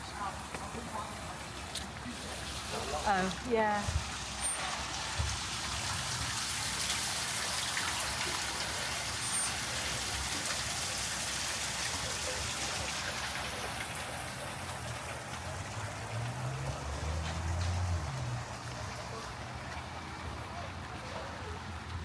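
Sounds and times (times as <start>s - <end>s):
rain falling on street: 0.0s - 22.0s.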